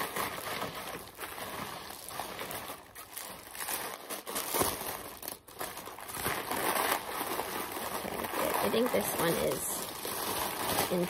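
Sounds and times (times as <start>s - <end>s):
packing wrap crinkling: 0.0s - 11.0s.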